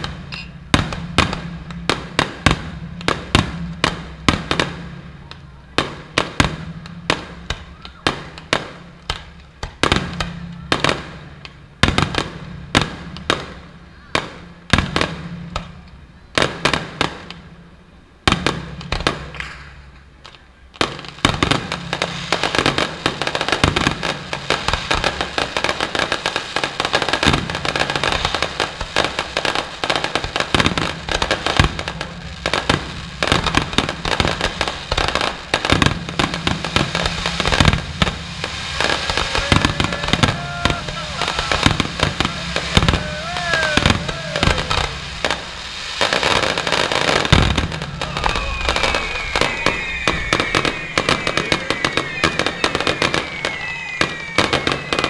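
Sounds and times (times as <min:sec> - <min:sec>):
fireworks crackling: 0:00.0 - 0:55.0
fireworks exploding: 0:00.0 - 0:55.0.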